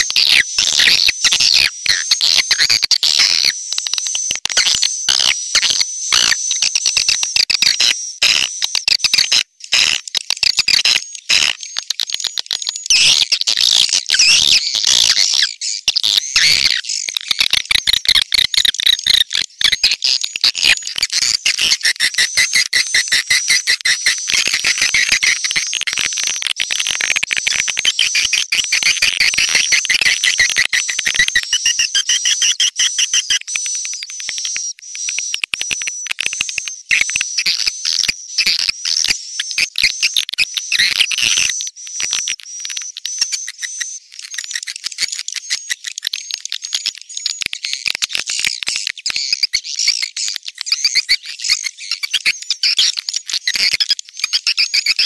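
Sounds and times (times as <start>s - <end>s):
swiftlets chirping and twittering: 8.8s - 55.0s.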